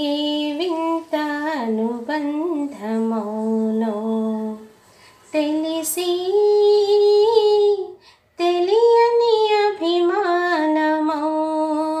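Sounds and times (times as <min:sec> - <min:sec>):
woman singing slow melody: 0:00.0 - 0:12.0.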